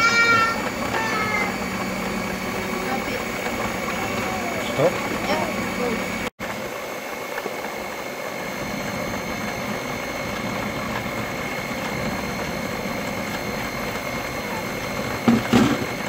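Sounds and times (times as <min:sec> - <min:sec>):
stand mixer whisking: 0:00.0 - 0:16.0.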